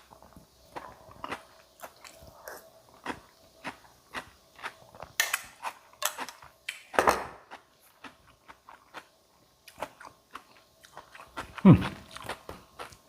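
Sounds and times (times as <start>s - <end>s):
crunchy food chewing: 0.0s - 6.8s, 7.4s - 13.0s.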